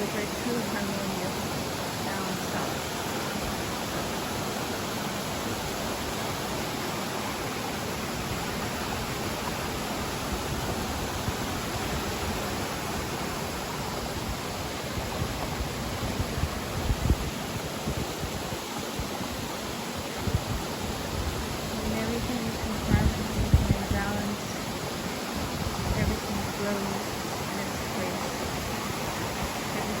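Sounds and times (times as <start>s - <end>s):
flowing water: 0.0s - 30.0s.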